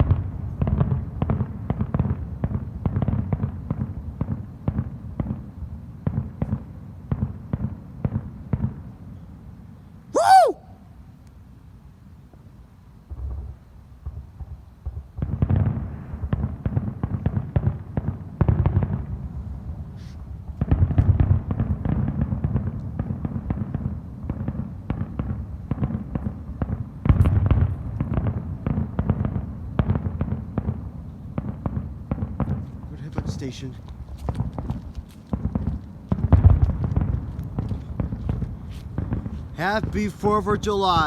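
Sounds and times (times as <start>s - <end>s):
fireworks bangs and crackles: 0.0s - 9.0s, 13.1s - 41.0s.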